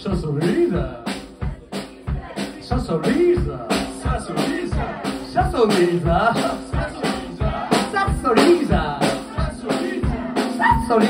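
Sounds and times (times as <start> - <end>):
live rockabilly band playing: 0.0 - 11.0.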